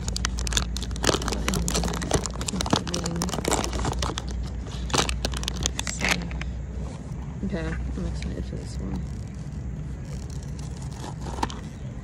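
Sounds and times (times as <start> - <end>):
plastic wrapper crinkling: 0.0 - 6.4, 8.4 - 11.9
steady low rumble: 0.0 - 12.0.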